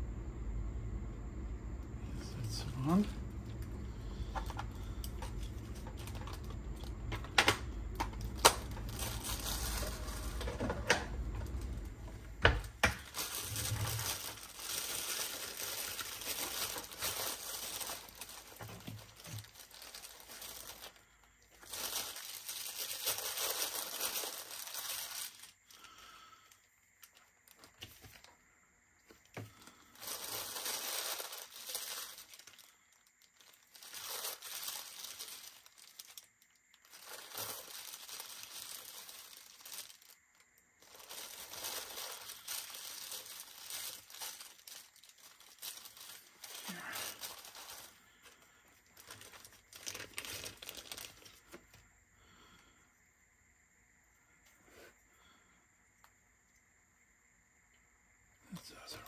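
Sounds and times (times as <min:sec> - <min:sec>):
crinkling handling noise: 0:01.0 - 0:52.8.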